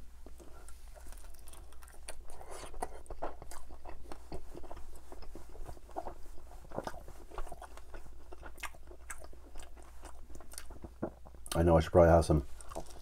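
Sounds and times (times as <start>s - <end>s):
chewing crunchy chicken skin: 0.2s - 11.6s, 12.6s - 13.0s.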